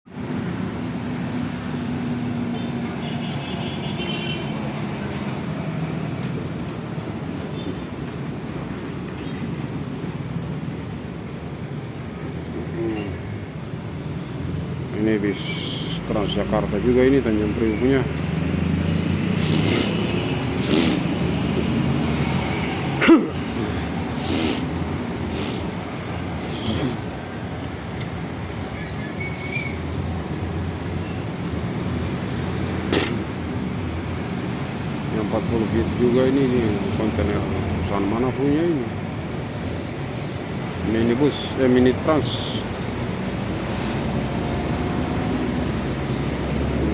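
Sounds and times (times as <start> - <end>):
heavy road traffic hum: 0.1 - 46.9.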